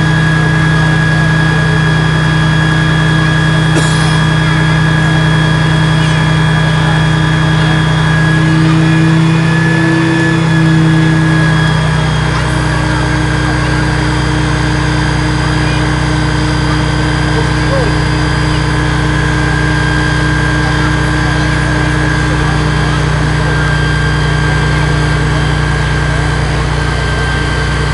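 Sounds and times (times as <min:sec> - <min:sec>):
fire engine diesel running: 0:00.0 - 0:27.9.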